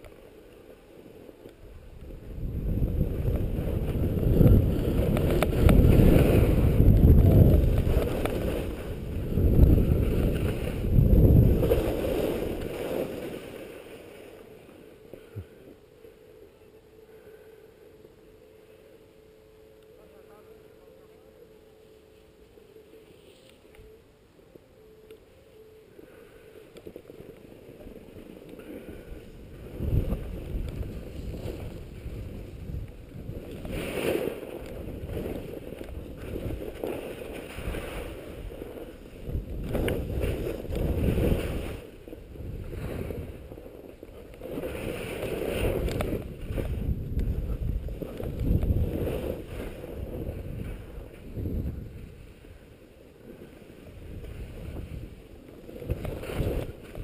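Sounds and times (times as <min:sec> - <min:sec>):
wind rumbling on microphone: 0:00.0 - 0:15.8, 0:26.0 - 0:57.0
skis scraping over snow: 0:00.0 - 0:16.5, 0:21.8 - 0:24.0, 0:25.3 - 0:57.0.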